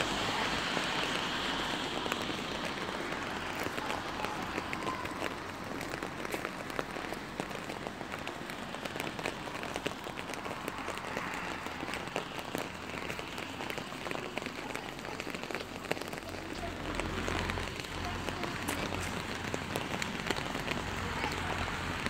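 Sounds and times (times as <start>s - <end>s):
rain falling: 0.0s - 22.0s
raindrops ticking on hard surfaces: 0.0s - 22.0s.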